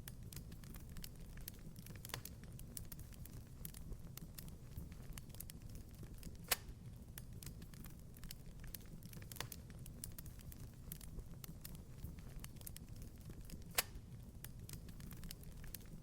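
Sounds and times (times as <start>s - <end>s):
low rumble of flames: 0.0s - 16.0s
sharp snaps and pops: 0.0s - 16.0s
wood fire crackling: 0.0s - 16.0s.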